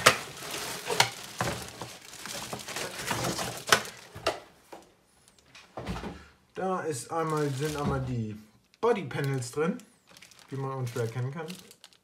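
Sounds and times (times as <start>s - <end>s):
plastic wrapping crinkling: 0.0s - 5.5s, 7.1s - 12.0s.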